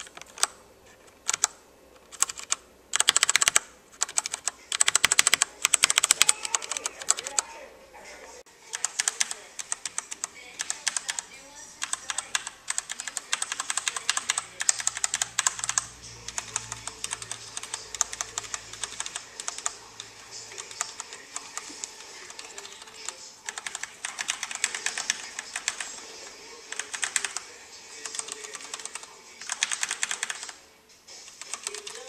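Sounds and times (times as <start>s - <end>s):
mechanical keyboard typing: 0.0s - 7.5s, 8.7s - 30.6s, 31.2s - 32.0s.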